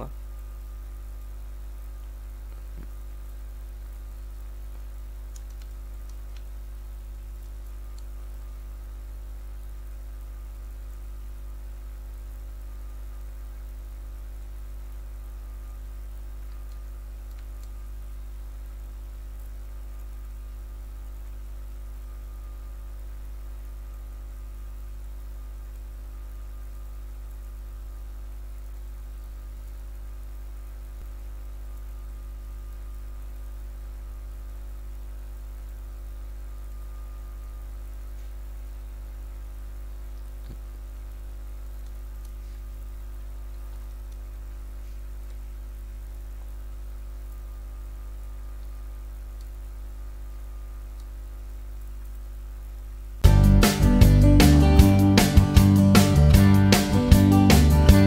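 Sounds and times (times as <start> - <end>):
electrical mains hum: 0.0 - 58.0
faint hiss: 0.0 - 58.0.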